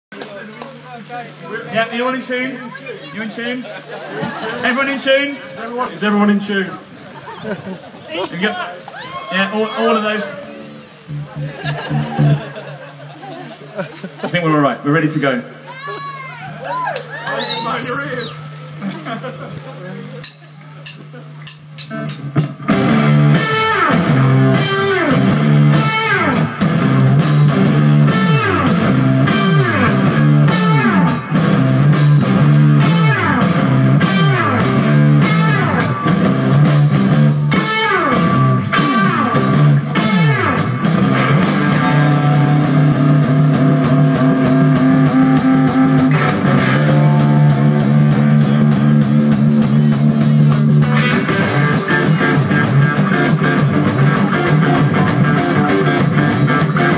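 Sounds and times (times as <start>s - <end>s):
rock band with electric guitars: 2.5s - 56.9s.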